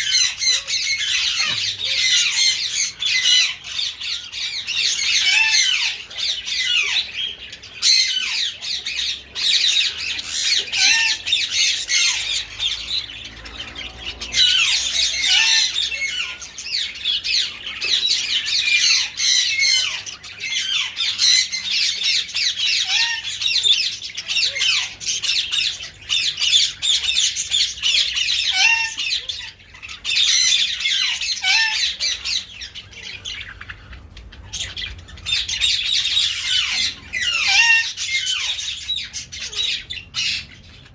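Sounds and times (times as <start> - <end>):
small birds chirping and squawking: 0.0 - 40.9.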